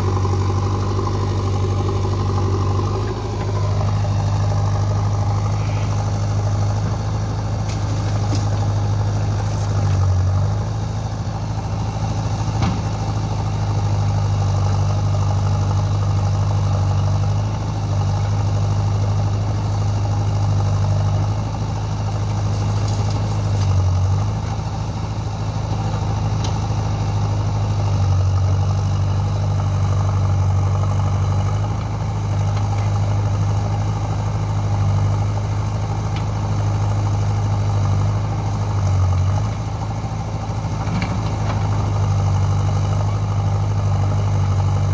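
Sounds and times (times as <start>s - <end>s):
backhoe loader engine working: 0.0s - 44.9s
tractor diesel engine idling: 0.0s - 44.9s.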